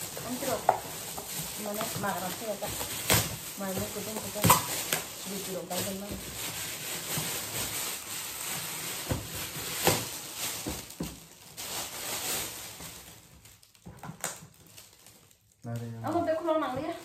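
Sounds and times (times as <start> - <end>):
foil gift wrap crinkling: 0.0 - 17.0.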